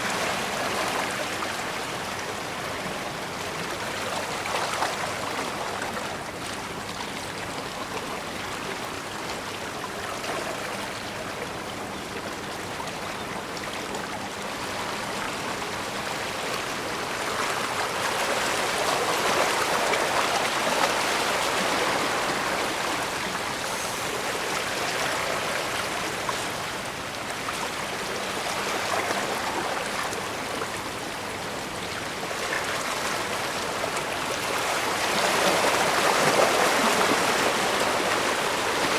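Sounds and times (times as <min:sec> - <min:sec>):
water washing and rushing: 0:00.0 - 0:09.0, 0:14.7 - 0:38.9.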